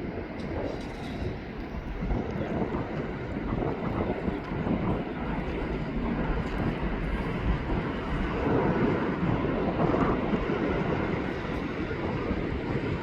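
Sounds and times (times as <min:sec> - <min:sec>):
jet airliner engines rumbling: 0:00.0 - 0:13.0.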